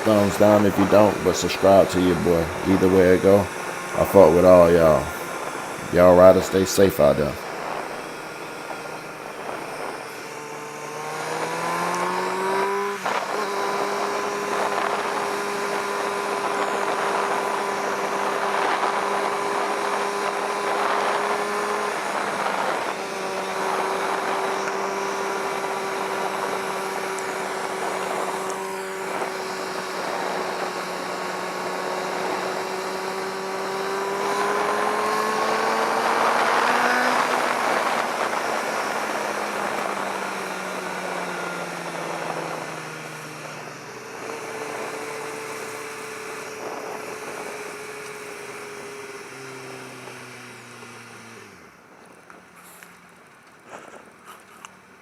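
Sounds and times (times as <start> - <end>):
motorcycle engine revving: 0.0 - 54.8.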